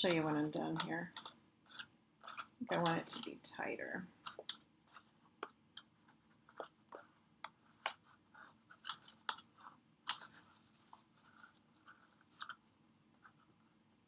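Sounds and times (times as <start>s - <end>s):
twine being pulled: 0.0s - 13.6s.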